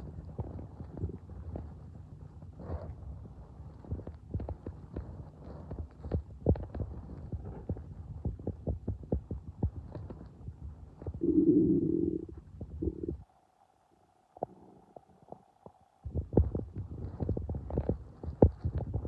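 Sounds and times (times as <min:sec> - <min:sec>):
stomach gurgling: 0:00.0 - 0:01.8, 0:02.6 - 0:13.2, 0:14.4 - 0:19.0.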